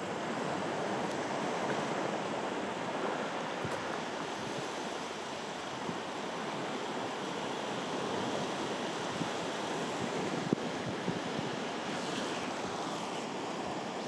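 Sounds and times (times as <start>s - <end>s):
small waves washing onto beach: 0.0s - 14.0s
wind: 0.0s - 14.0s.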